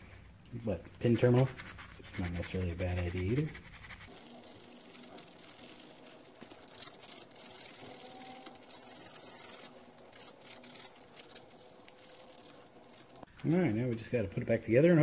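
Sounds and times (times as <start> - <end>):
sandpaper scratching metal: 1.0 - 13.3.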